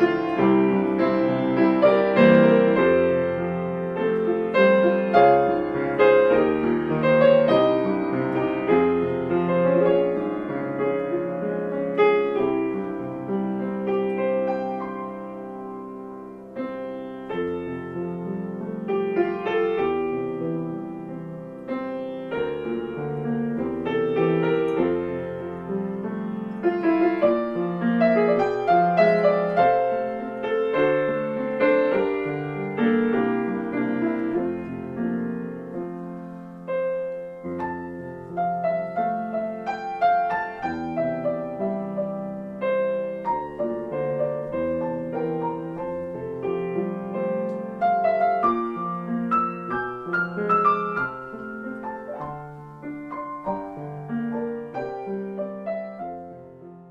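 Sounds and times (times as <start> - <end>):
piano music: 0.0 - 56.9.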